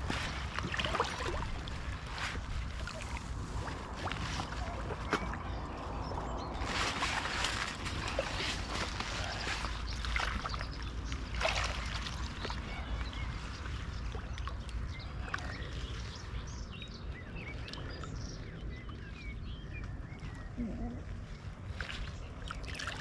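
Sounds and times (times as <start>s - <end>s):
water splashing and sloshing: 0.0s - 23.0s
small birds chirping: 0.1s - 23.0s.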